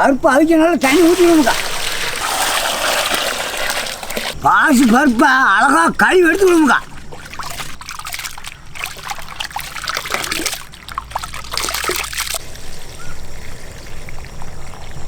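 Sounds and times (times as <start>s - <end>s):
lentils washed by hand in water: 0.4s - 15.0s.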